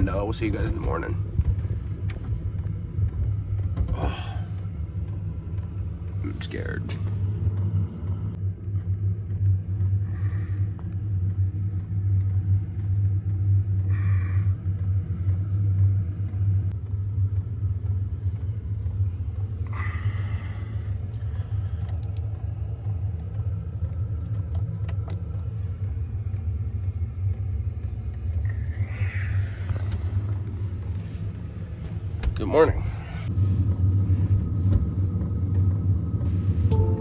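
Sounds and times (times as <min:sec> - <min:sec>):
diesel heater humming: 0:00.0 - 0:37.0.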